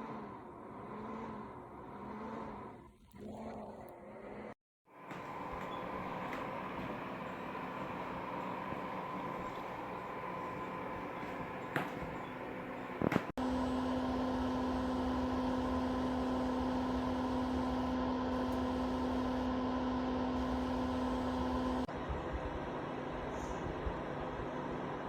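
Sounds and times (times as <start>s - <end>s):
heater fan humming: 4.9s - 25.0s.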